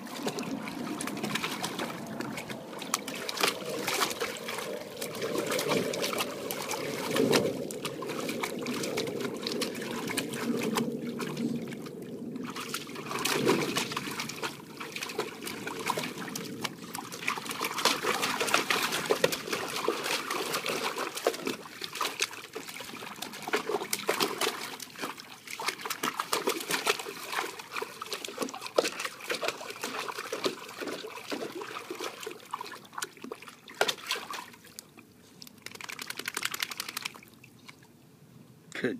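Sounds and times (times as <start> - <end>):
dog splashing water in pool: 0.0 - 37.8.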